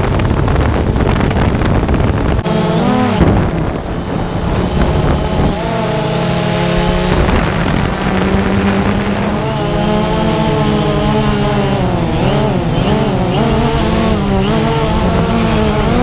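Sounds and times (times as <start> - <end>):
propeller aircraft engine: 0.0 - 16.0
wind on microphone: 0.0 - 16.0.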